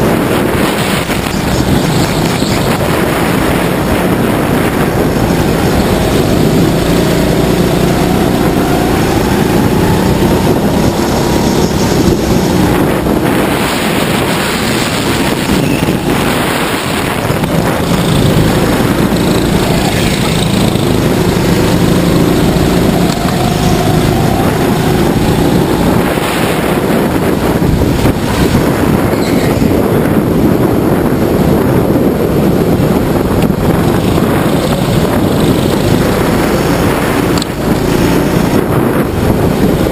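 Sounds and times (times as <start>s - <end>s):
go-kart motor at speed: 0.0s - 39.9s.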